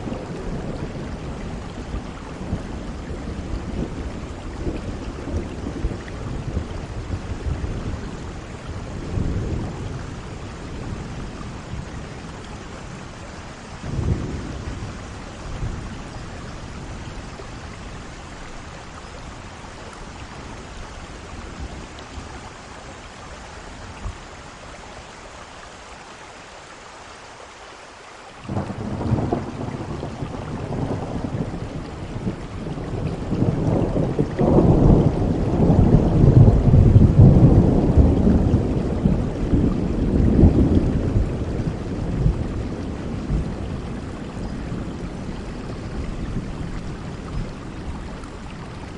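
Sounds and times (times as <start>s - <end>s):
thunder rumbling: 0.0s - 22.7s, 28.5s - 48.9s
heavy rain: 0.0s - 48.9s.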